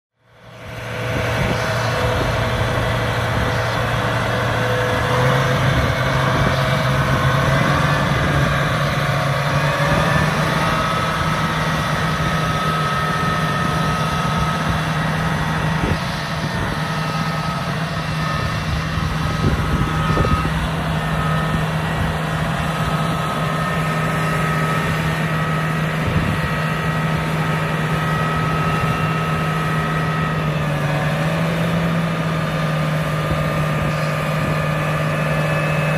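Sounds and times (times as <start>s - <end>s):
high whine: 0.2s - 35.9s
tractor diesel engine running: 0.2s - 35.9s.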